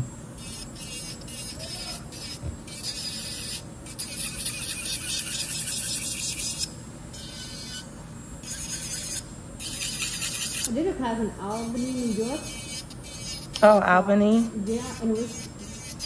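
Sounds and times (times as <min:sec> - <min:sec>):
electric nail drill grinding: 0:00.0 - 0:16.0.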